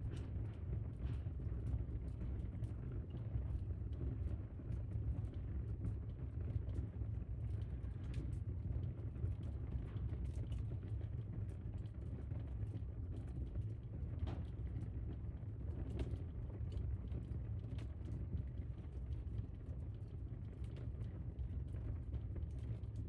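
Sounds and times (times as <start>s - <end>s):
fire crackling and popping: 0.0s - 23.0s
fire low rumble: 0.0s - 23.0s.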